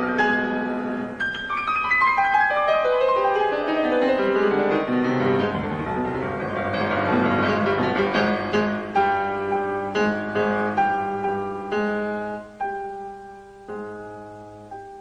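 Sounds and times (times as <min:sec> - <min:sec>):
classical grand piano: 0:00.0 - 0:15.0.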